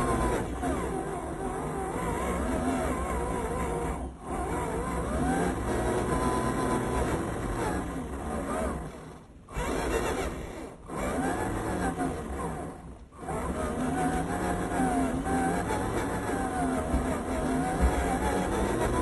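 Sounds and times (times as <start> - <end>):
rc truck motor whining: 0.0 - 19.0.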